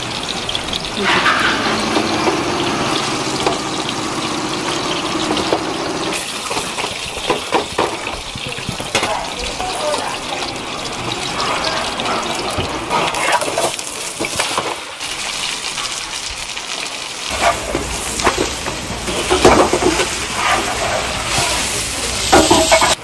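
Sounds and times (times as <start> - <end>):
frying pan clattering: 0.0 - 15.6, 17.3 - 23.0
pancake sizzling in oil: 0.0 - 23.0.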